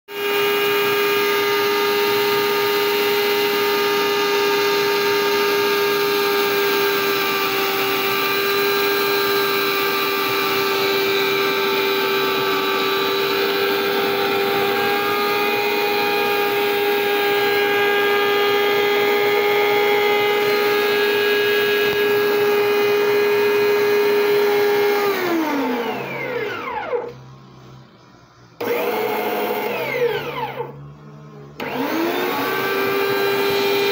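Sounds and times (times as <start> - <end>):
meat grinder motor whine: 0.1 - 27.3, 28.6 - 33.9.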